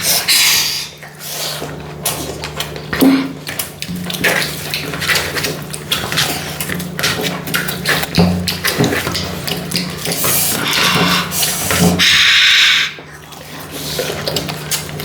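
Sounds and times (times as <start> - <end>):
wet chewing and mouth smacks: 0.0 - 15.0.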